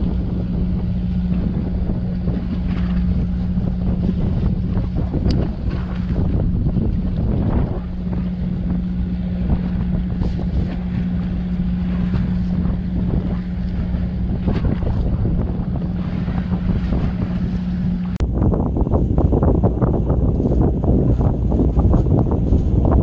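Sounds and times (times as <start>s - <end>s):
boat machinery hum: 0.0s - 23.0s
water washing: 0.0s - 23.0s
wind buffeting microphone: 0.0s - 23.0s.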